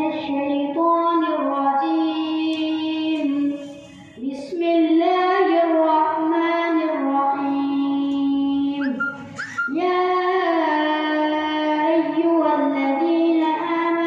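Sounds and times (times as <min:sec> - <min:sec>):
boy reciting melodically: 0:00.0 - 0:14.0.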